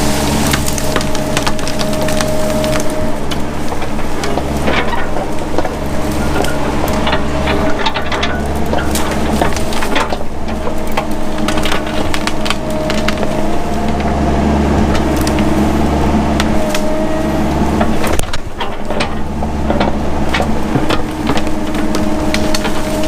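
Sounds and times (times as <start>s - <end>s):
brush and trees snapping: 0.0s - 23.0s
excavator engine running: 0.0s - 23.0s
hydraulic whine: 0.0s - 23.0s.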